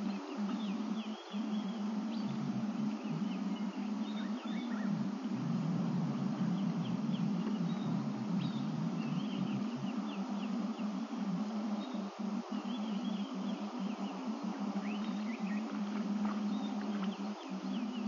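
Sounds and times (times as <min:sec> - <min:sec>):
small birds chirping and trilling: 0:00.0 - 0:18.0
steady low hum: 0:00.0 - 0:18.0.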